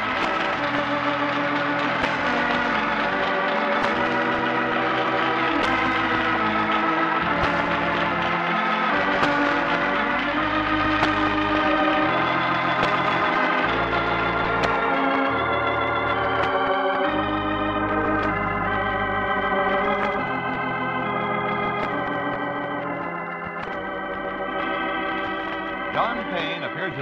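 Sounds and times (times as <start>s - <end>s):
organ chords: 0.0s - 27.0s.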